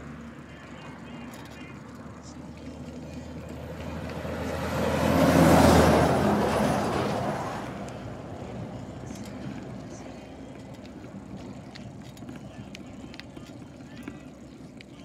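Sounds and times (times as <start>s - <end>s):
truck passing: 0.0s - 15.0s.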